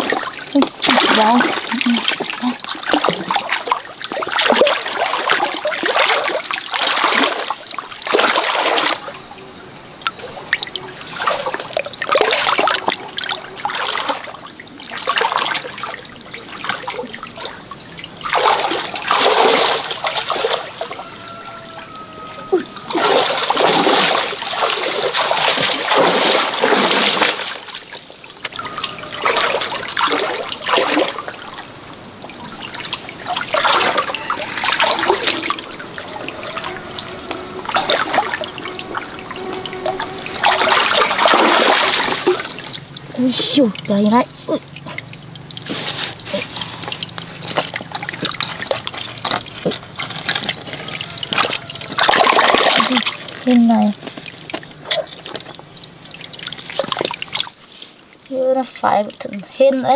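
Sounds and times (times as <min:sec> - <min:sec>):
stream water splashing: 0:00.0 - 0:59.9
water trickling: 0:00.0 - 0:59.9.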